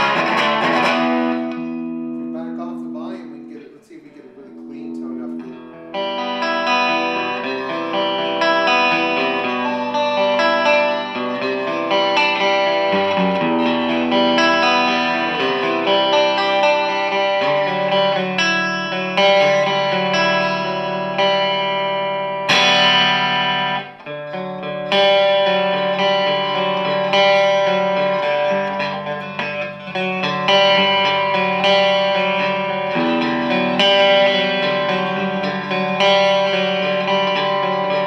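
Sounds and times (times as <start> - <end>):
overdriven electric guitar chords: 0.0 - 38.0.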